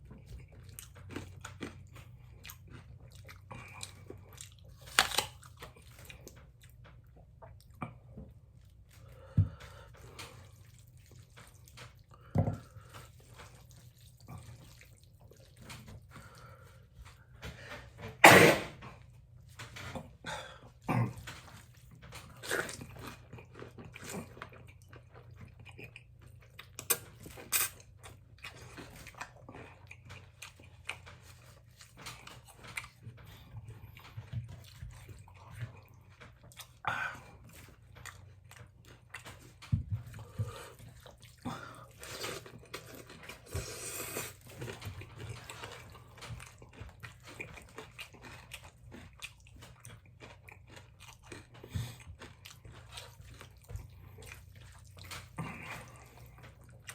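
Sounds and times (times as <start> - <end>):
people chewing noodles: 0.0 - 56.9.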